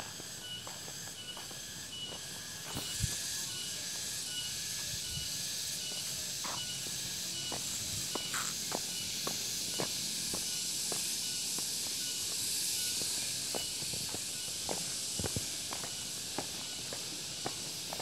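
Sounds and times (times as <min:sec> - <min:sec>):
footsteps on pavement: 0:00.0 - 0:03.2, 0:06.4 - 0:18.0
steady high hiss: 0:00.0 - 0:18.0.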